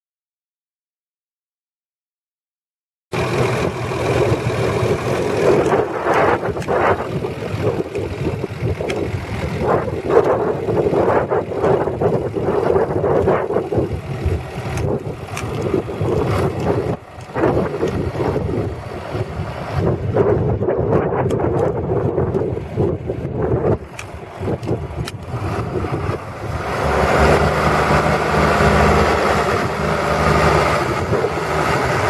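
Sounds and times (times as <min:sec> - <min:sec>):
tractor diesel engine running: 0:03.2 - 0:32.0
wind buffeting microphone: 0:03.2 - 0:32.0.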